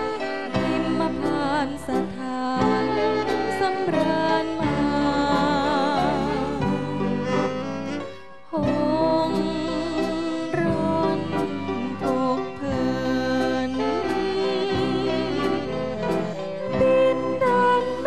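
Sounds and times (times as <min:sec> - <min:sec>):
band accompaniment: 0:00.0 - 0:18.0
woman singing with vibrato: 0:00.0 - 0:18.0.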